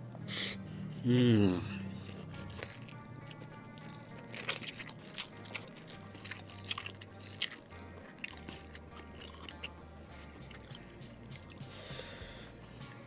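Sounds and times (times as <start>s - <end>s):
quiet background music with bass: 0.0s - 13.0s
chewing noodles: 0.6s - 12.0s.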